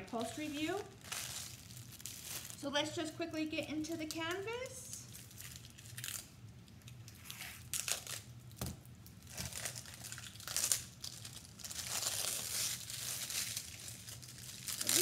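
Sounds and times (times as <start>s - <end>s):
wrapping crinkling: 0.0s - 15.0s.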